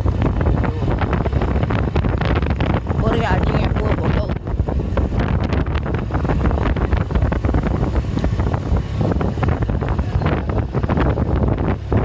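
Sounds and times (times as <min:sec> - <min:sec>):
low rumble: 0:00.0 - 0:12.0
wind buffeting microphone: 0:00.0 - 0:12.0.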